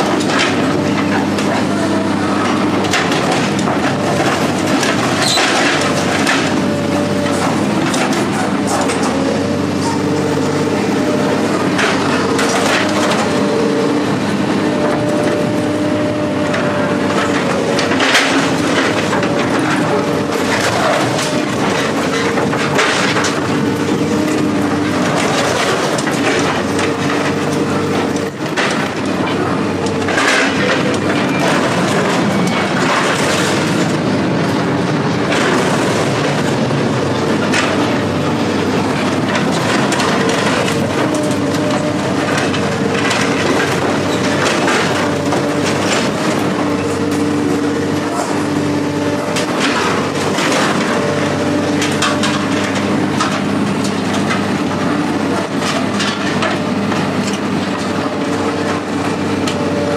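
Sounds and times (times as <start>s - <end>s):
diesel machinery running: 0.0s - 59.9s
scrap metal clanking and crunching: 0.0s - 59.9s.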